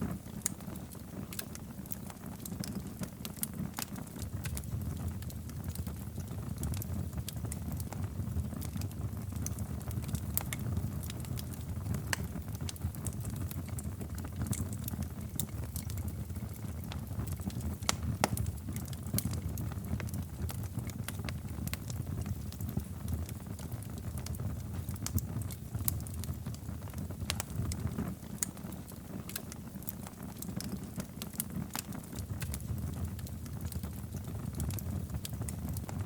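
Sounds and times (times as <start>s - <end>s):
wood fire crackling and popping: 0.0s - 36.0s.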